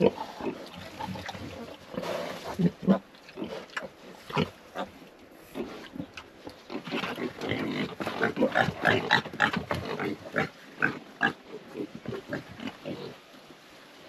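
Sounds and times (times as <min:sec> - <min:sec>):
pigs grunting: 0:00.0 - 0:13.2.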